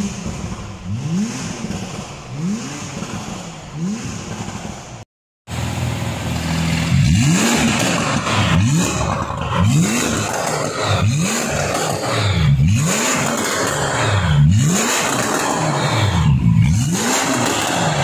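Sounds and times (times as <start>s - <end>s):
car engine revving from idle: 0.0s - 18.0s.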